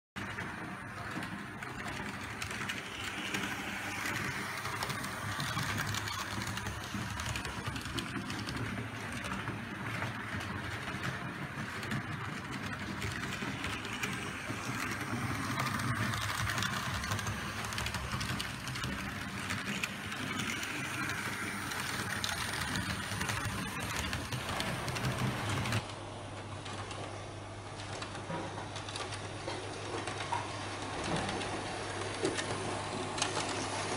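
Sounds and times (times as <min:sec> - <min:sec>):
model train wheels rattling on rails: 0:00.6 - 0:25.9, 0:28.0 - 0:33.9.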